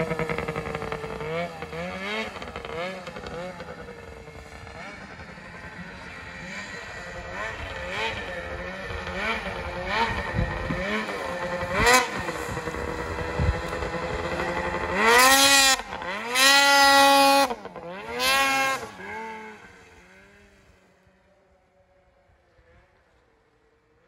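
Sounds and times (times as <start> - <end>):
snowmobile engine revving: 0.0 - 21.8.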